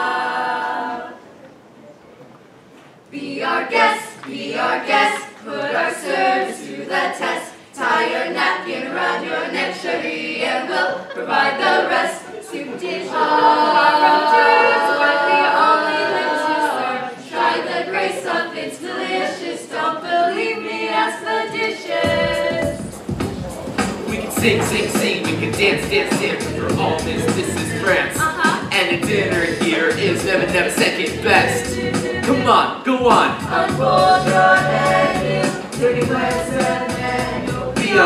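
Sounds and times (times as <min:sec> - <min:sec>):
young voices singing in harmony: 0:00.0 - 0:01.4, 0:03.1 - 0:38.0.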